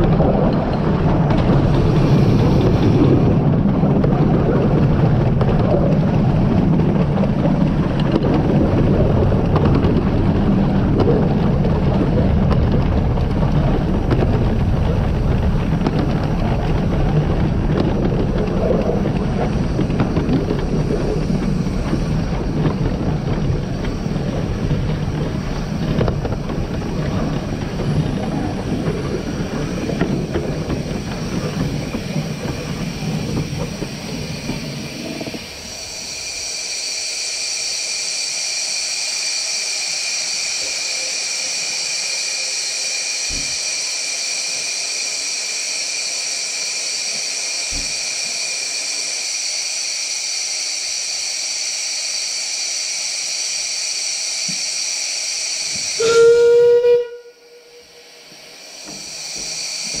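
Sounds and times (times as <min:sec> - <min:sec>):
steam locomotive running: 0:00.0 - 1:00.0.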